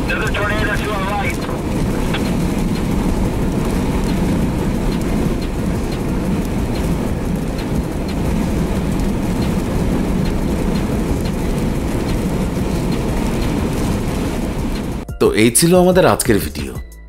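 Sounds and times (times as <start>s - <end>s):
tornado wind rumbling: 0.0s - 15.1s
light ticks: 0.7s - 15.0s.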